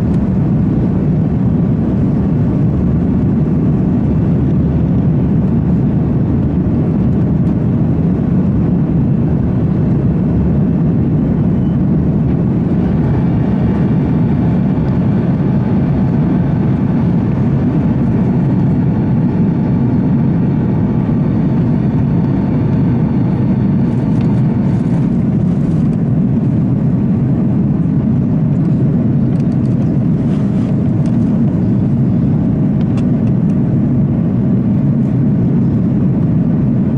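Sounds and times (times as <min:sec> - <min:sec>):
airplane cabin noise: 0:00.0 - 0:36.9.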